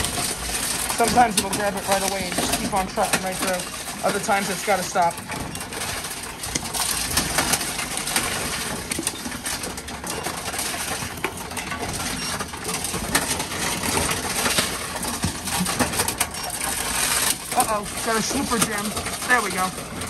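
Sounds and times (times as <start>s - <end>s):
vending machine mechanical clatter: 0.0s - 20.0s.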